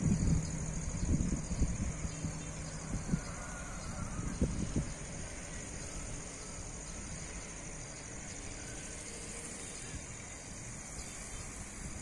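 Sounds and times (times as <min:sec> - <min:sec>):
high-pitched insect chorus: 0:00.0 - 0:12.0
low background rumble: 0:00.0 - 0:12.0.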